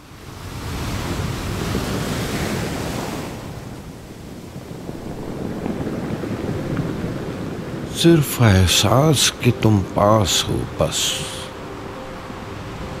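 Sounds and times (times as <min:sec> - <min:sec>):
sea surf washing onto beach: 0:00.0 - 0:13.0.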